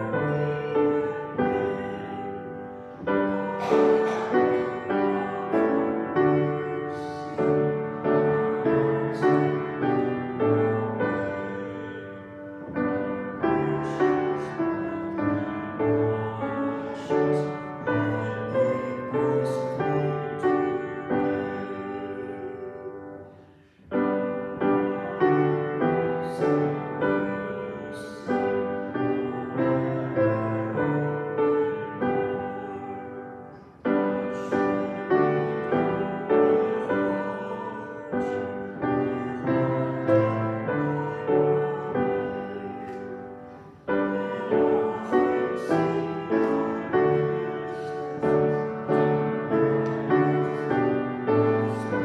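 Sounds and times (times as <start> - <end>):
piano playing hymn chords: 0.0 - 52.0.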